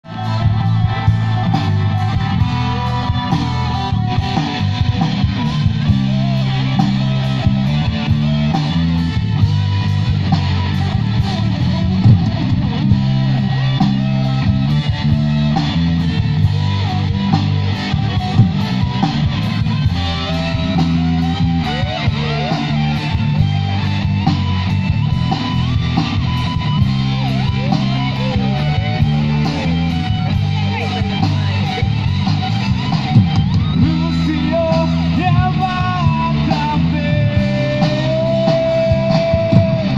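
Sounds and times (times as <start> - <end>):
bass notes: 0.0 - 39.9
electric guitar: 0.0 - 39.9
steady drum beat: 0.0 - 39.9.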